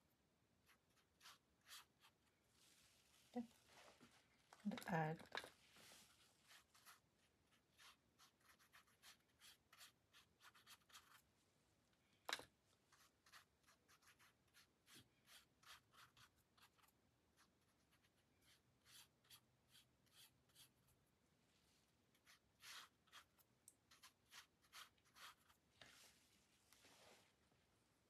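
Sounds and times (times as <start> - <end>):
brush strokes on wet paper: 0.6 - 4.4, 5.5 - 11.2, 12.9 - 27.4.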